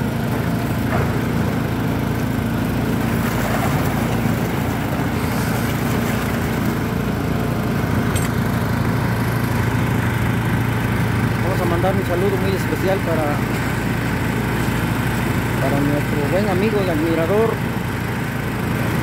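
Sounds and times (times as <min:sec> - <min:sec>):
machine engines humming: 0:00.0 - 0:19.0.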